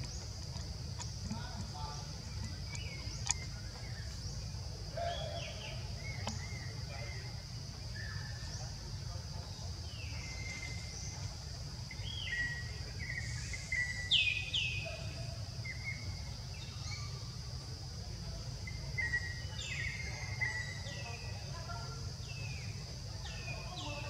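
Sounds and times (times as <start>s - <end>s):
steady high insect drone: 0.0s - 24.0s.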